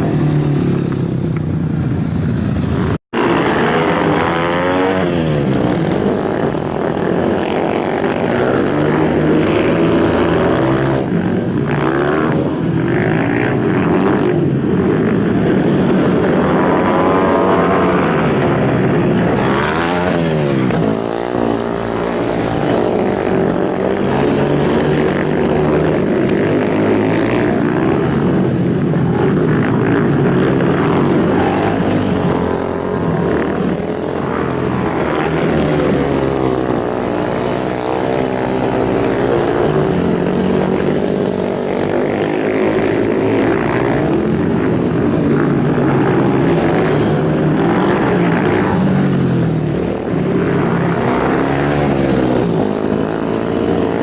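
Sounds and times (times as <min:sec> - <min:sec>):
racing motorcycles revving past: 0:00.0 - 0:54.0.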